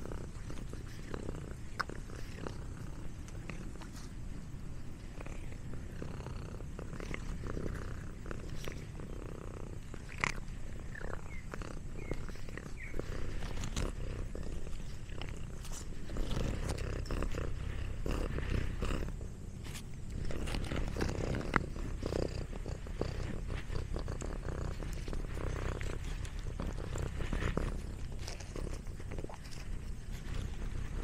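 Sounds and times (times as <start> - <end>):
cat crunching food: 0.0 - 31.0
cat purring: 0.0 - 31.0.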